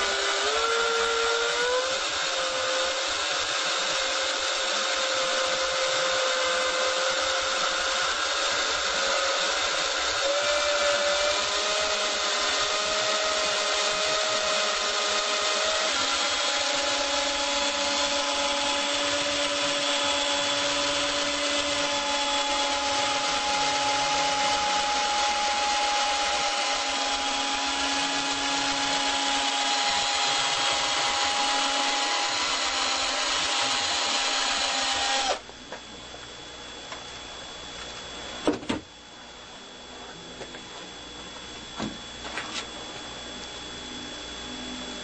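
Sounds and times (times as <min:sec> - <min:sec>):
cordless drill motor whine: 0:00.0 - 0:45.0.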